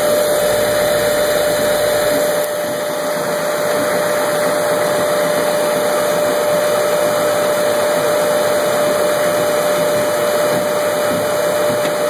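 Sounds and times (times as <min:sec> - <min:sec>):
mechanical whir of pinsetter: 0:00.0 - 0:12.0.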